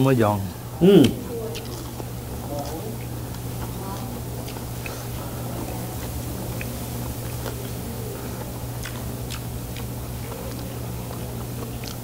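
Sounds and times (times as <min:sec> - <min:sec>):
steady low hum: 0:00.0 - 0:12.0
crunchy chewing: 0:01.0 - 0:12.0.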